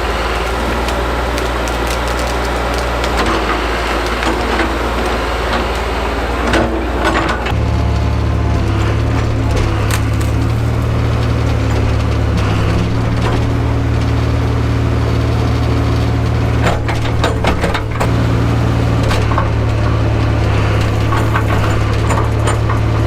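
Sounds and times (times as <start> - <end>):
branches cracking and splintering: 0.0 - 23.0
excavator engine running: 0.0 - 23.0.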